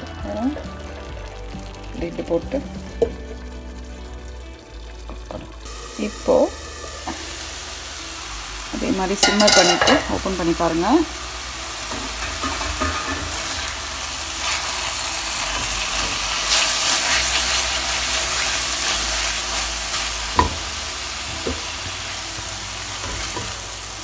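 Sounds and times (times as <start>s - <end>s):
chutney sizzling in oil: 0.0s - 24.0s.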